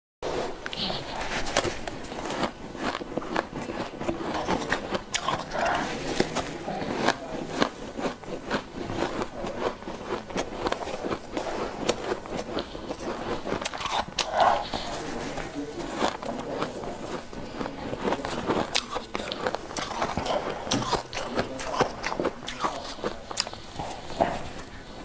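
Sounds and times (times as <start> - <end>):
ice being chewed: 0.3 - 25.0.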